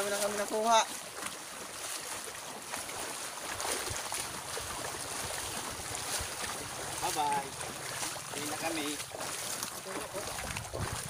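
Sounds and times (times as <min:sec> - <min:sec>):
feet splashing through shallow water: 0:00.0 - 0:11.0.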